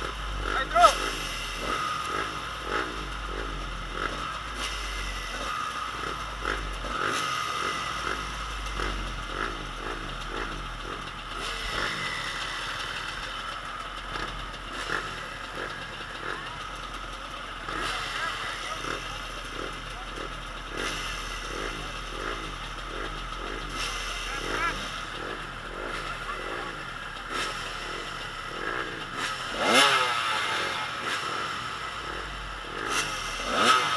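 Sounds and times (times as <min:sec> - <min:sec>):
motocross bike engines revving: 0:00.0 - 0:33.9.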